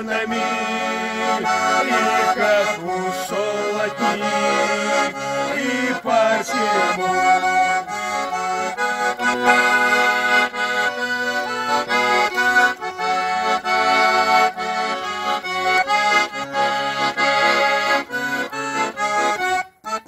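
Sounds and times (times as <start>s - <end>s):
button accordion playing: 0.0s - 20.0s.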